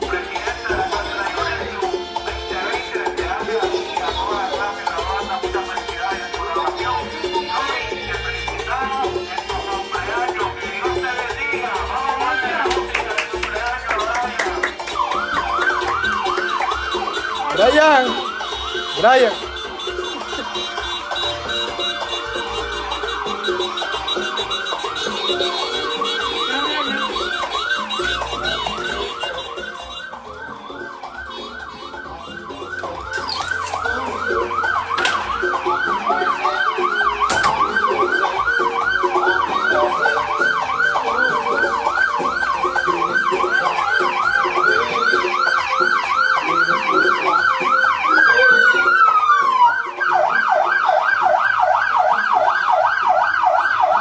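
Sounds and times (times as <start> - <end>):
siren yelping: 10.4 - 54.0.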